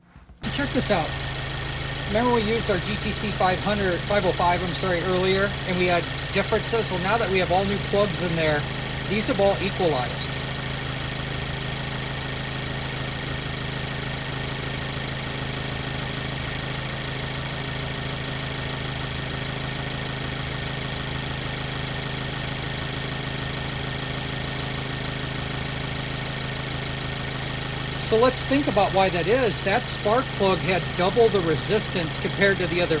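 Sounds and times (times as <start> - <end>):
car engine idling: 0.4 - 33.0.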